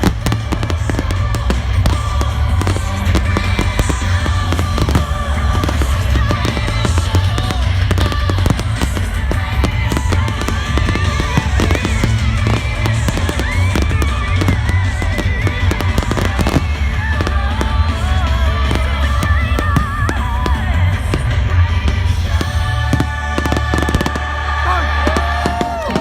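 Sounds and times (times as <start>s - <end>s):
fireworks bursting and crackling: 0.0s - 26.0s
loud music with heavy bass: 0.0s - 26.0s.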